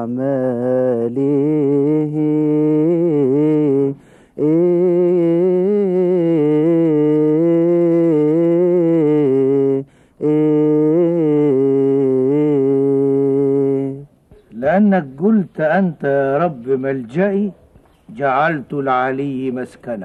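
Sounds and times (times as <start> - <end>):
man chanting: 0.0 - 20.0.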